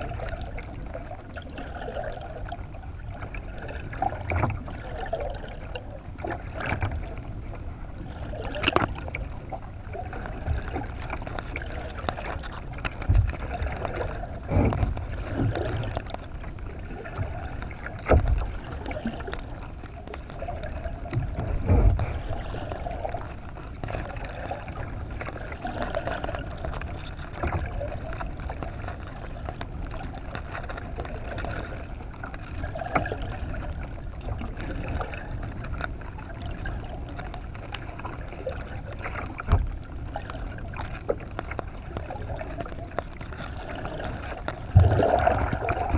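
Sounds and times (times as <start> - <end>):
muffled underwater water rushing: 0.0 - 45.9.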